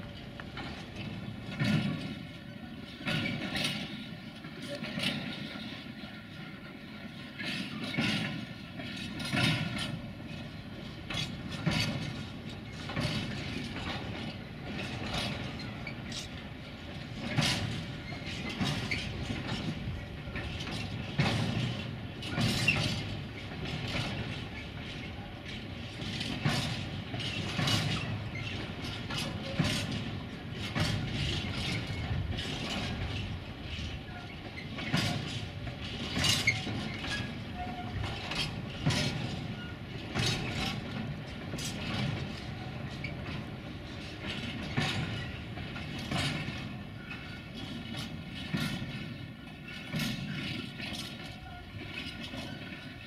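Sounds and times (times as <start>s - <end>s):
low train rumble: 0.0s - 53.0s
train wheels clacking over rail joints: 0.0s - 53.0s.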